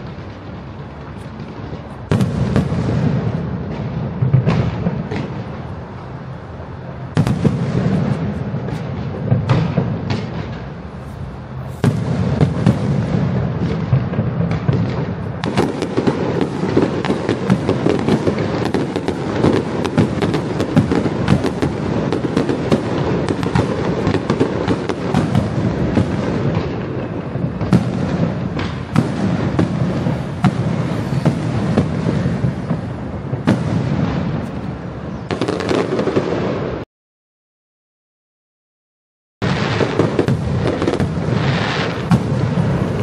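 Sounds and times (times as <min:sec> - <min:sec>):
fireworks crackling and cracking: 0:00.0 - 0:36.8, 0:39.4 - 0:43.0.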